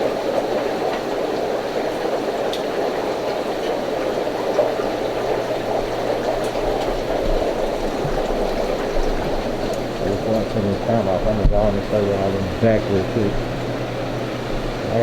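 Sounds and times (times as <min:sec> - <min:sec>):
aquarium water bubbling: 0:00.0 - 0:15.0.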